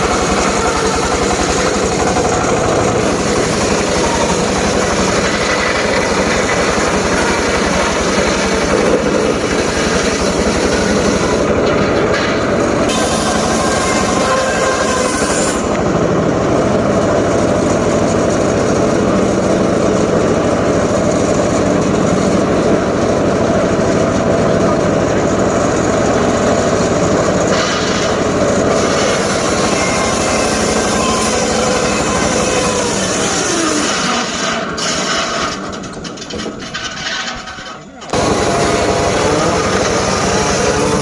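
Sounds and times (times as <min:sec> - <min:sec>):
circular saw cutting log: 0:00.0 - 0:35.7, 0:38.1 - 0:41.0.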